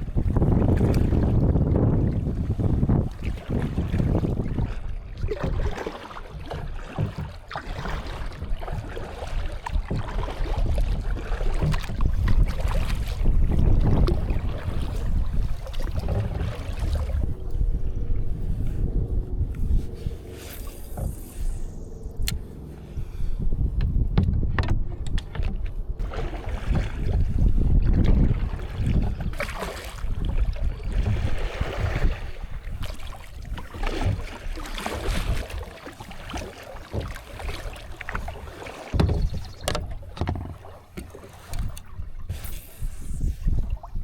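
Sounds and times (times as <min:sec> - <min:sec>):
wind buffeting microphone: 0:00.0 - 0:05.8, 0:06.4 - 0:44.0
water splashing against hull: 0:00.0 - 0:44.0.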